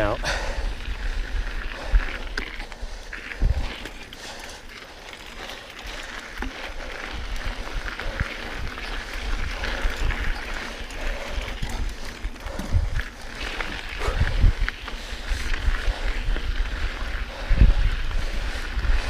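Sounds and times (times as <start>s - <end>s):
bike clicks and rattles: 0.0s - 19.0s
bike tyres on dirt trail: 0.0s - 19.0s
wind on microphone: 0.3s - 4.0s, 7.1s - 19.0s.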